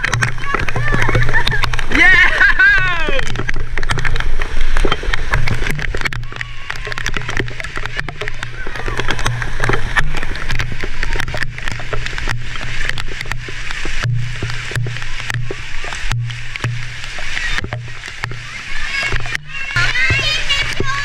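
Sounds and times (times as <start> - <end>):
heavy rain pouring: 0.0 - 21.0
raindrops tapping on camera: 0.0 - 21.0.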